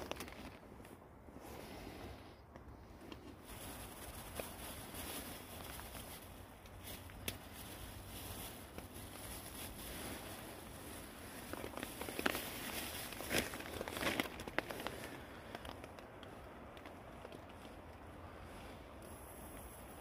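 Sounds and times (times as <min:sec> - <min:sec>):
plastic bag rustling and crinkling: 0:00.0 - 0:01.0, 0:03.0 - 0:20.0.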